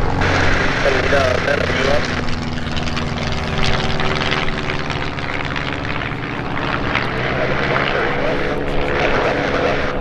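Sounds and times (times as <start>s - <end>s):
propeller plane droning past: 0.0s - 10.0s.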